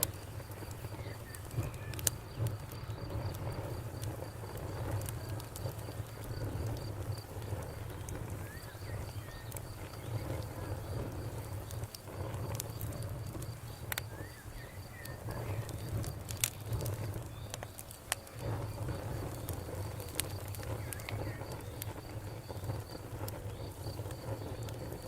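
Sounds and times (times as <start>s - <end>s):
campfire crackling and popping: 0.0s - 25.0s
cricket chirping: 0.0s - 25.0s.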